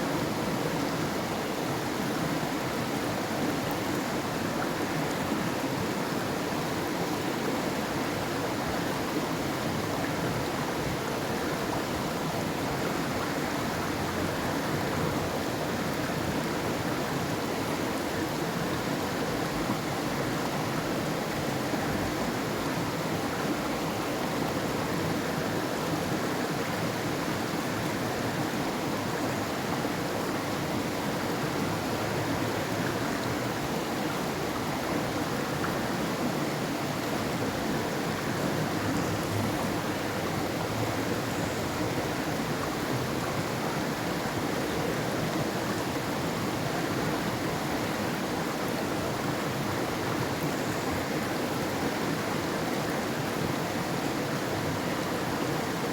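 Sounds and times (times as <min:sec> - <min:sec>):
river water flowing over rocks: 0:00.0 - 0:55.9.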